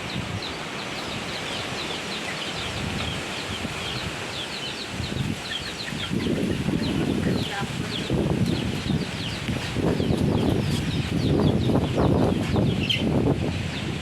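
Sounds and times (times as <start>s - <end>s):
birds chirping: 0.0s - 14.0s
wind gusting against microphone: 0.0s - 14.0s.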